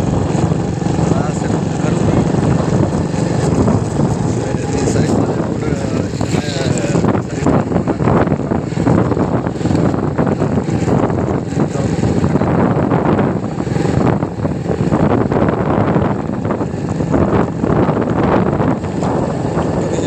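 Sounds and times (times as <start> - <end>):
vehicle running noise: 0.0 - 20.0
wind buffeting microphone: 0.0 - 20.0.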